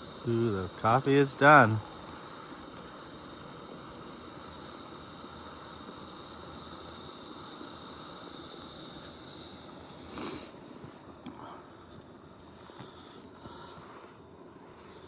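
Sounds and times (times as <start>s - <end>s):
camp stove burner hissing: 0.0s - 15.0s.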